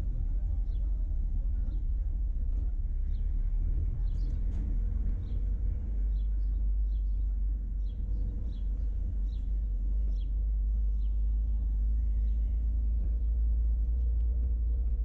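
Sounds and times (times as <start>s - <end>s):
vehicle driving rumble: 0.0s - 15.0s.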